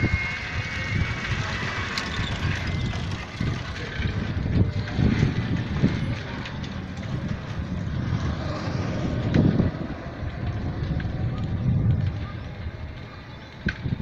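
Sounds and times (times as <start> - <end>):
road rumble: 0.0 - 14.0
wind noise: 0.0 - 14.0.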